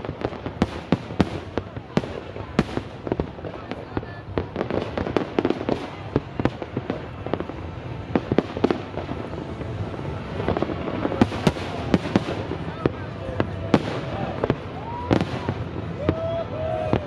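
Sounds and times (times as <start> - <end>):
distant fireworks rumble: 0.0 - 17.0
fireworks bangs and crackling: 0.0 - 17.0.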